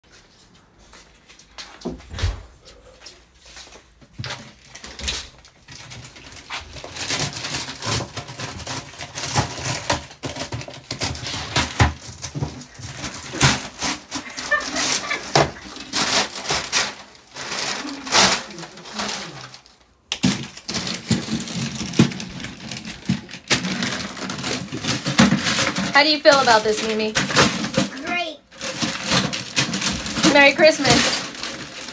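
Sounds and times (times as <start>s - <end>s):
wrapping paper ripping: 4.4s - 31.9s.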